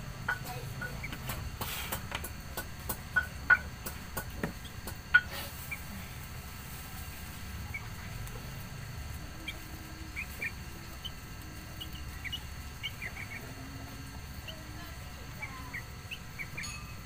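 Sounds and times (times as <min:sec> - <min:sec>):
small birds chirping: 0:00.2 - 0:17.0
steady low rumble: 0:02.2 - 0:17.0.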